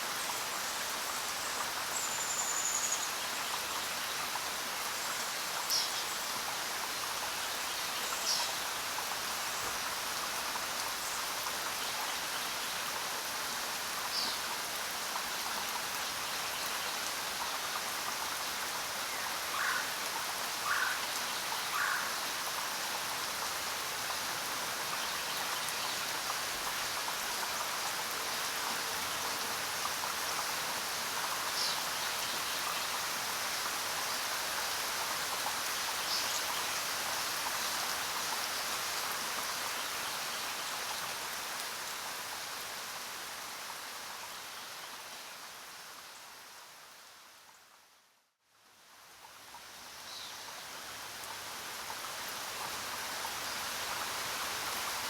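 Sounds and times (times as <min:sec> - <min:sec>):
rain falling: 0:00.0 - 0:47.9, 0:48.6 - 0:55.0.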